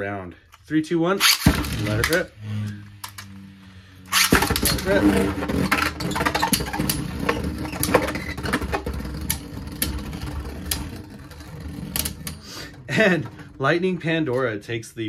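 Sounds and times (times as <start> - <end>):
spinning tops whirring and rattling: 1.2 - 14.6.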